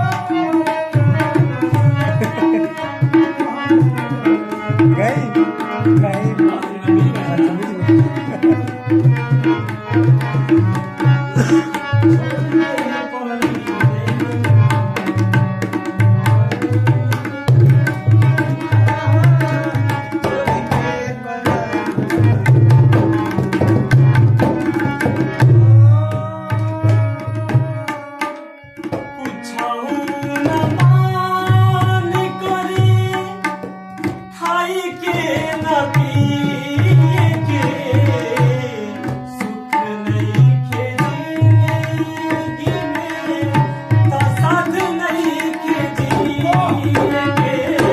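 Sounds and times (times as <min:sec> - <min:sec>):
tabla playing quick rhythm: 0:00.0 - 0:47.9.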